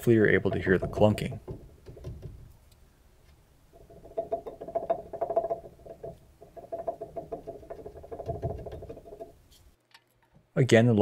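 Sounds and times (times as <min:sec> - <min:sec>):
ball joint clunking: 0:00.0 - 0:10.5.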